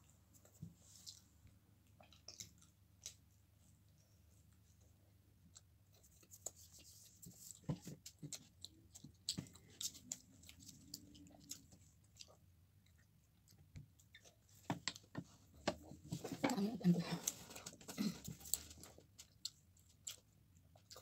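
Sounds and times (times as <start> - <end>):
person chewing pizza: 0.4 - 21.0.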